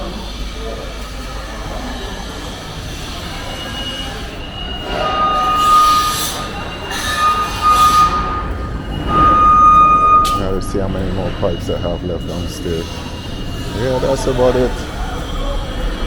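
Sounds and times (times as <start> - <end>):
steady rumble: 0.0 - 16.0
high-pitched metallic squealing: 0.3 - 16.0.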